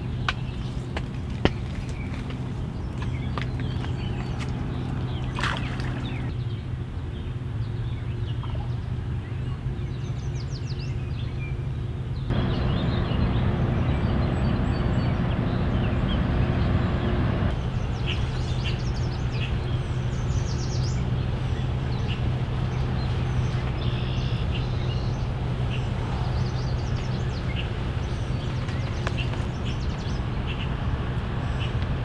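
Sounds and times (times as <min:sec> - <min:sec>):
birds chirping: 0:00.0 - 0:32.0
low outdoor hum: 0:00.0 - 0:32.0.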